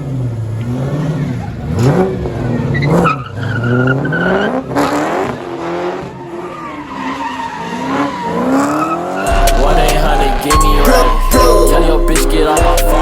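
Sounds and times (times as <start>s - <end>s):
car engine revving: 0.0s - 13.0s
tires squealing on pavement: 0.0s - 13.0s.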